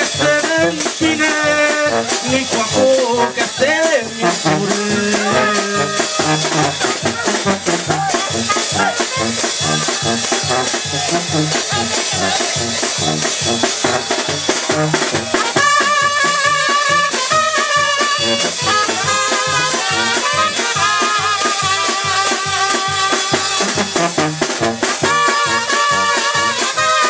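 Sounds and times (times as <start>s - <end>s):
sousaphone bass line: 0.0s - 21.8s
bass drum and cymbal beat: 0.0s - 27.0s
brass band playing: 0.0s - 27.0s
trumpets: 0.0s - 27.0s.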